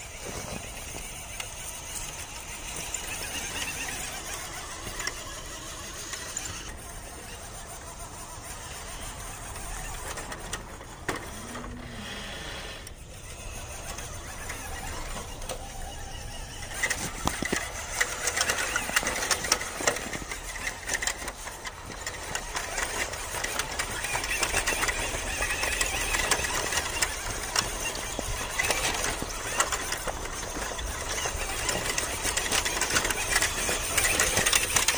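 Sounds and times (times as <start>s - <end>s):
tyres crunching on dirt: 0.0s - 12.1s, 13.0s - 34.9s
small electric motor whirring: 0.0s - 34.9s.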